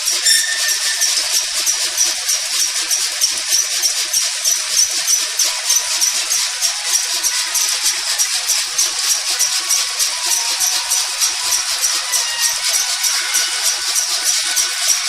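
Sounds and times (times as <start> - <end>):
machine rattling rapidly: 0.0 - 15.0.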